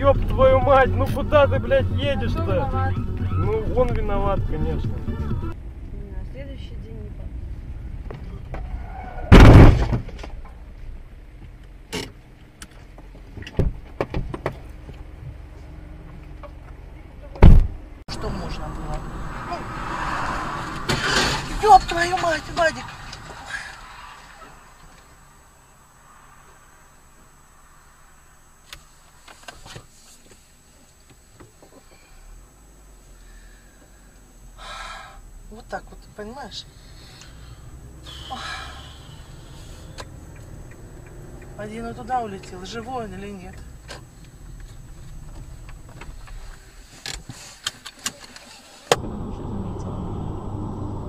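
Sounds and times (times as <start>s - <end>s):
car engine idling: 0.0s - 8.6s, 10.1s - 47.6s, 48.8s - 51.0s.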